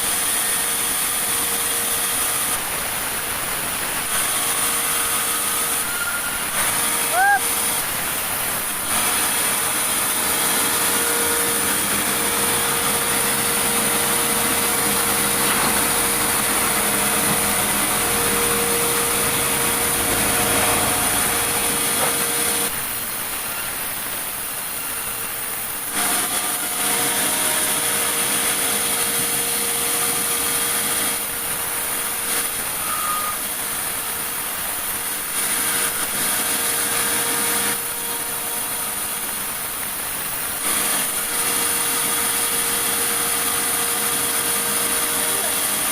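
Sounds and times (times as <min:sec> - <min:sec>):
sawmill machinery whining: 0:00.0 - 0:45.9.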